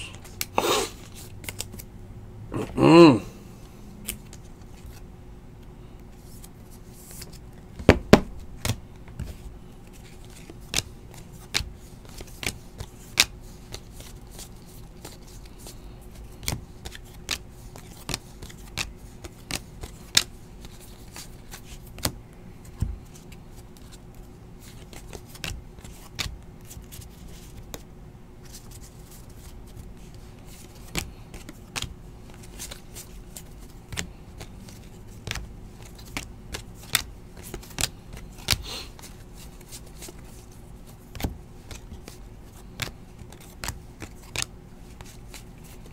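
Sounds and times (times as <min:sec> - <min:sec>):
faint steady hum: 0:00.0 - 0:45.9
cards clicking and tapping: 0:01.4 - 0:01.9, 0:07.1 - 0:24.0, 0:24.6 - 0:45.9.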